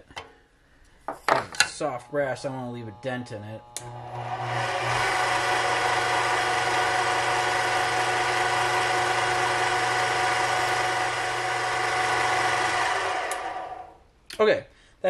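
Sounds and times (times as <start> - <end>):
lathe motor whining: 1.7 - 14.0
drill boring into brass: 1.8 - 14.0.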